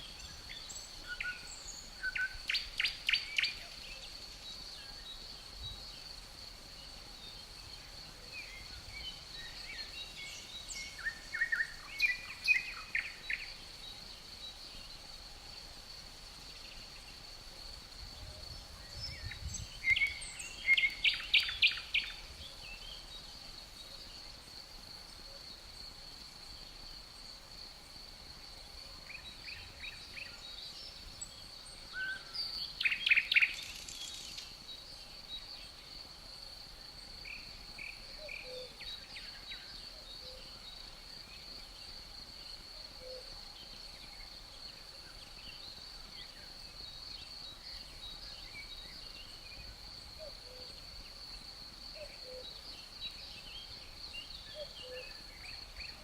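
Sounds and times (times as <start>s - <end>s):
high-pitched cricket trill: 0.0s - 56.0s
songbirds chirping: 0.0s - 56.0s.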